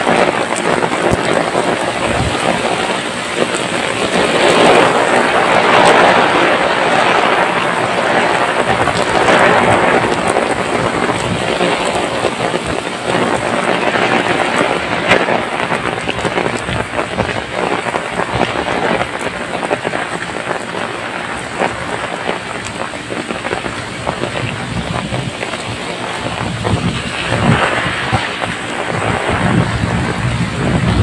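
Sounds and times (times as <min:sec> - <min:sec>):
heavy rain on pavement: 0:00.0 - 0:31.0.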